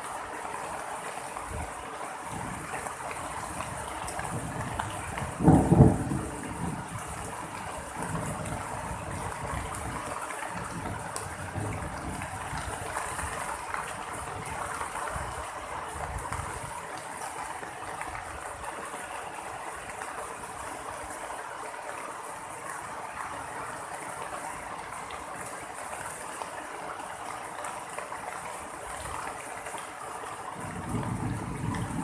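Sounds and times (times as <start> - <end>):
rain falling steadily: 0.0 - 32.0.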